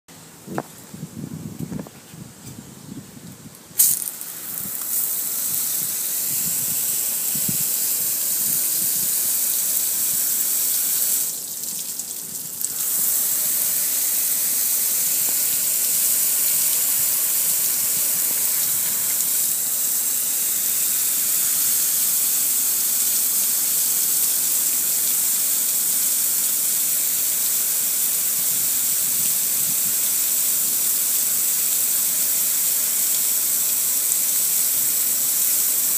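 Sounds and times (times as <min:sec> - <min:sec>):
water spraying with hiss: 0:03.8 - 0:35.9.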